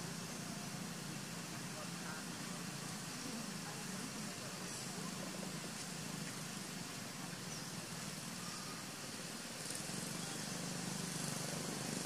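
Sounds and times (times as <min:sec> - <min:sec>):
low engine hum: 0:00.0 - 0:12.0
outdoor hiss: 0:00.0 - 0:12.0.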